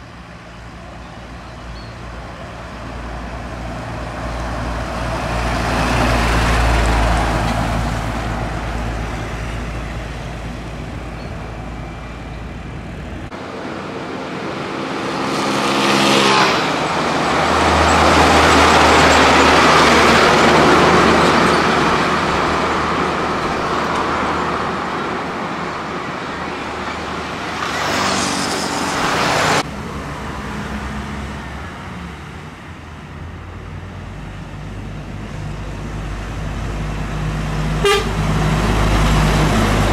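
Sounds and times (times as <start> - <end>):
diesel trucks driving past: 0.0 - 39.9
tyre and road noise: 0.0 - 39.9.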